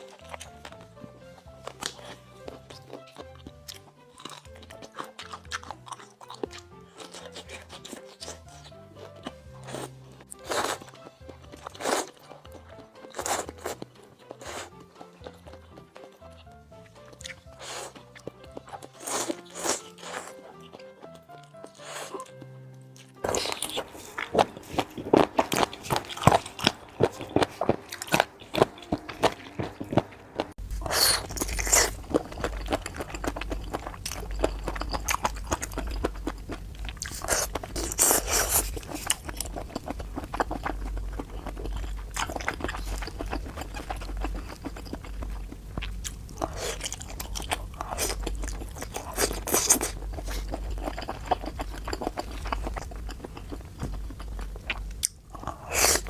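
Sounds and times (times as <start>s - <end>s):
crunching and wet chewing: 0.0s - 56.0s.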